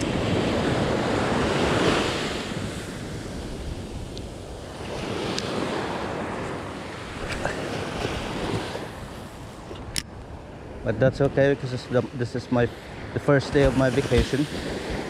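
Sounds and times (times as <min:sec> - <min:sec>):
surf breaking on sand: 0:00.0 - 0:09.7, 0:10.8 - 0:15.0
wind on microphone: 0:00.0 - 0:15.0.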